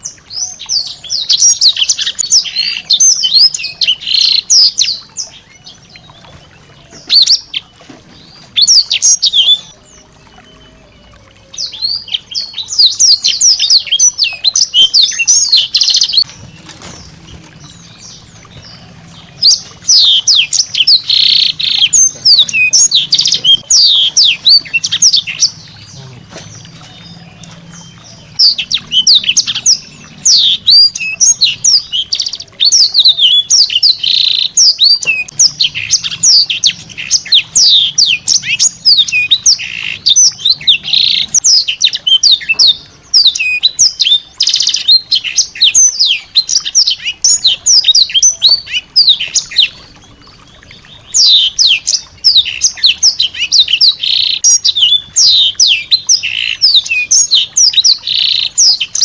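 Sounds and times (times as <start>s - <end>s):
songbird chirping and whistling: 0.0s - 59.0s.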